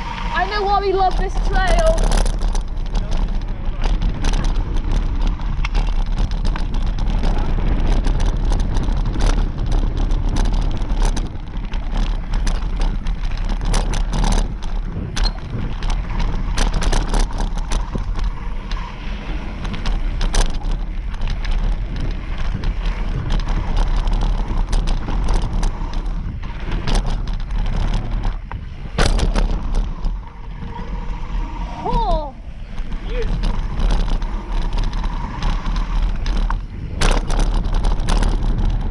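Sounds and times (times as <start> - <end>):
bike knocks and rattles: 0.0 - 38.9
tyres rolling over dirt: 0.0 - 38.9
wind buffeting microphone: 0.0 - 38.9.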